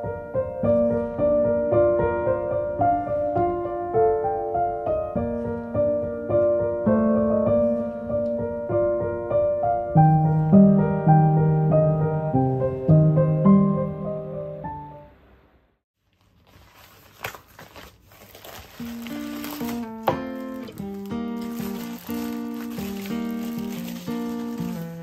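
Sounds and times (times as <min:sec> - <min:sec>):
gentle piano music: 0:00.0 - 0:15.2, 0:18.1 - 0:25.0.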